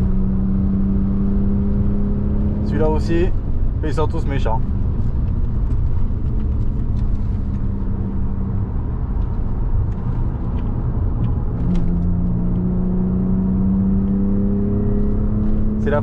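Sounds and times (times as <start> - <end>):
car engine hum: 0.0 - 16.0
road rumble: 0.0 - 16.0.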